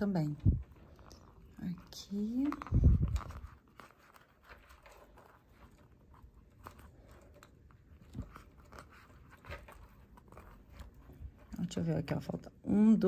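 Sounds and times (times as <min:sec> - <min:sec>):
faint rustling: 0:00.0 - 0:12.5.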